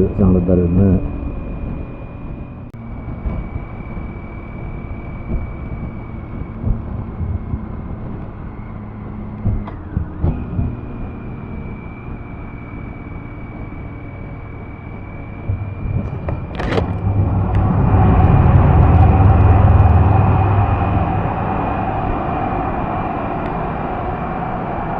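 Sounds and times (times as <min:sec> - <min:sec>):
motorcycle engine rumble: 0:00.0 - 0:24.9
thin steady whine: 0:00.0 - 0:24.9
wind rush: 0:00.0 - 0:24.9.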